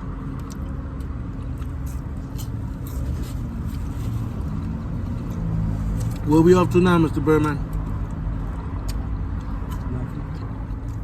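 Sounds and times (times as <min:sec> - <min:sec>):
low engine or traffic rumble: 0:00.0 - 0:11.0.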